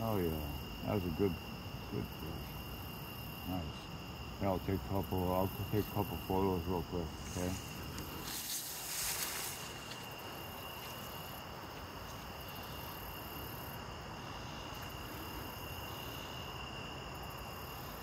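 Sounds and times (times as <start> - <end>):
crickets trilling: 0.0 - 18.0
high insect trill: 0.0 - 18.0.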